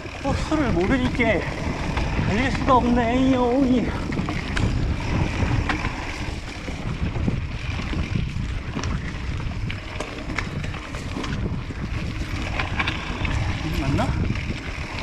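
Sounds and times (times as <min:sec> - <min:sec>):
bike rattling clicks over bumps: 0:00.0 - 0:15.0
bike tyres rumbling on dirt trail: 0:00.0 - 0:15.0
wind buffeting microphone: 0:00.0 - 0:15.0.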